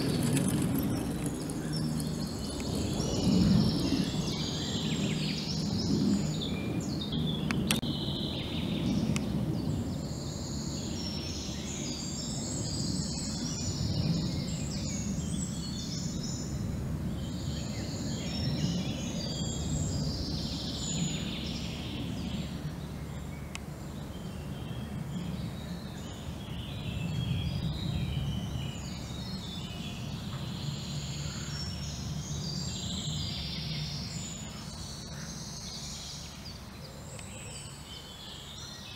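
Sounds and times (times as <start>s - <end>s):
steady low rumble: 0.0s - 38.7s
songbirds singing and chirping: 0.0s - 38.9s.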